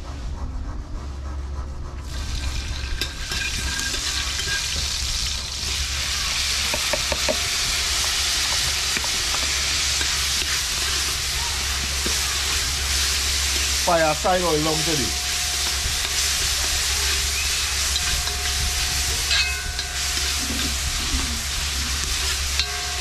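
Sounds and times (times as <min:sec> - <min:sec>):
food sizzling in hot oil: 0:02.1 - 0:23.0.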